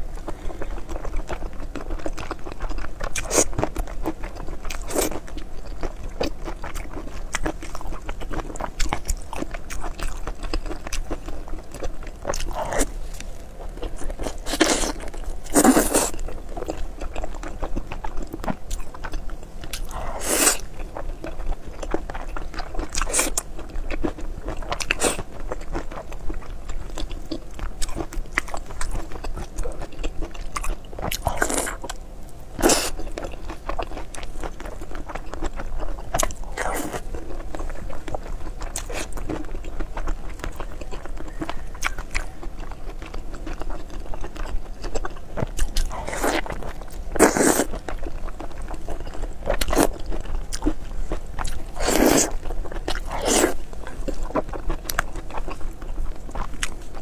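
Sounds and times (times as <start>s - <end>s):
person chewing crunchy food: 0.1s - 57.0s.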